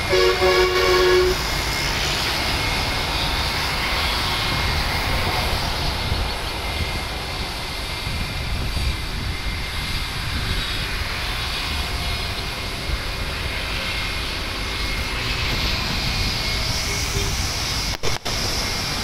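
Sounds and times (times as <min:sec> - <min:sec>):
high engine whine: 0:00.0 - 0:19.0
jet engines rumbling: 0:00.0 - 0:19.0.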